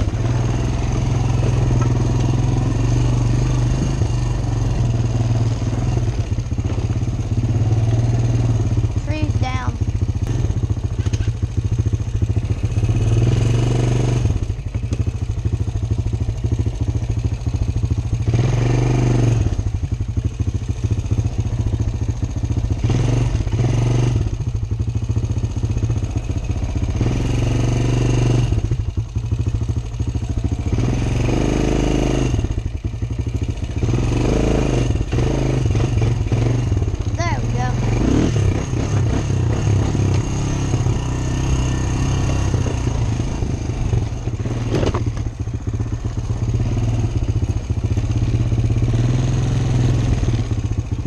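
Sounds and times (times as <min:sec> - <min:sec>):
atv engine revving: 0:00.0 - 0:51.0.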